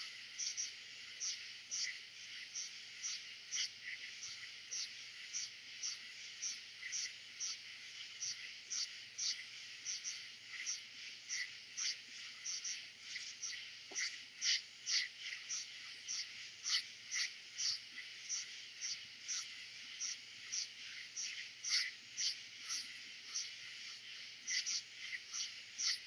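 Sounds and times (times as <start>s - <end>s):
rhythmic insect chirping: 0.0s - 26.0s
insects trilling: 0.4s - 7.6s, 8.2s - 23.9s, 24.5s - 26.0s.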